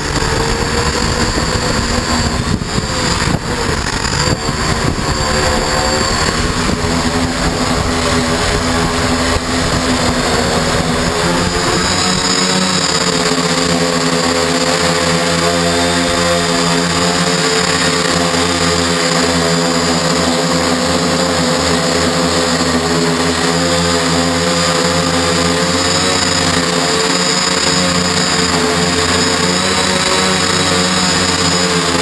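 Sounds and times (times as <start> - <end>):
drone motors buzzing: 0.0 - 32.0.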